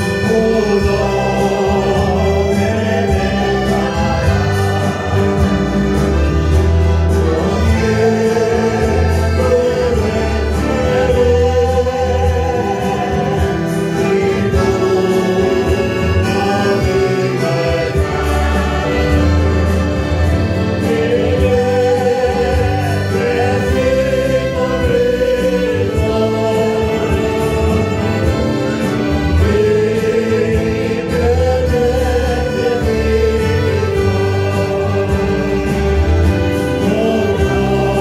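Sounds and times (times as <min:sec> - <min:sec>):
accordion: 0:00.0 - 0:38.0
acoustic guitars: 0:00.0 - 0:38.0
choir singing: 0:00.0 - 0:38.0
low bass notes: 0:00.0 - 0:38.0
saxophone: 0:00.0 - 0:38.0.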